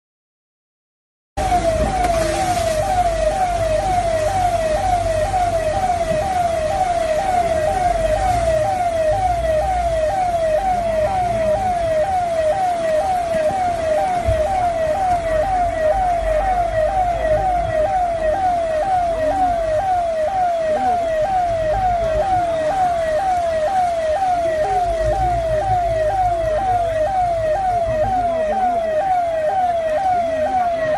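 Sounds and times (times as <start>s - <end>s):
electronic siren falling tone: 1.4s - 30.9s.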